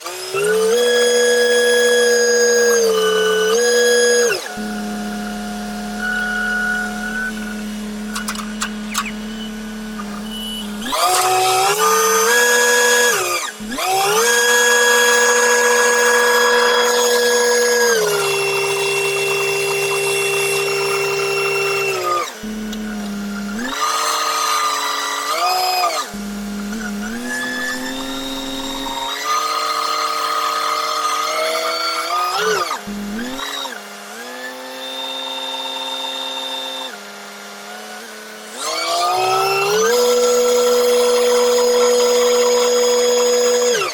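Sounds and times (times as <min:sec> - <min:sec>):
crane engine and hydraulics whining: 0:00.0 - 0:43.9.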